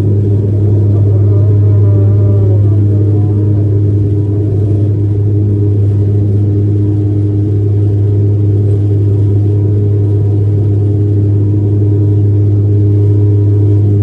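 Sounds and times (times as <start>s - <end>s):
turboprop cabin drone: 0.0s - 14.0s.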